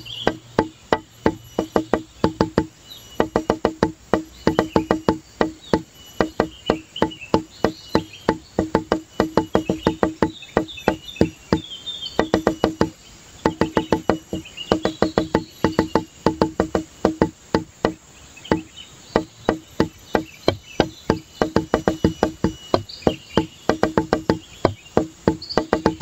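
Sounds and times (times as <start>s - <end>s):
quick percussive notes: 0.0s - 11.6s, 12.2s - 26.0s.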